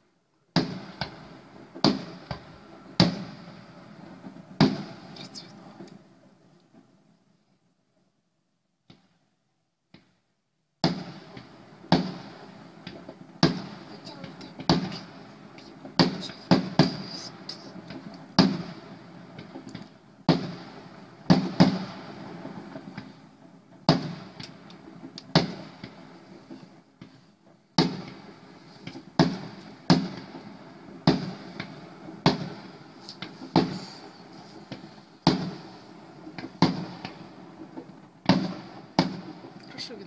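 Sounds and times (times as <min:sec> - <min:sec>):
fireworks bursting with echoing bangs: 0:00.0 - 0:07.3, 0:08.8 - 0:09.3, 0:09.9 - 0:40.0.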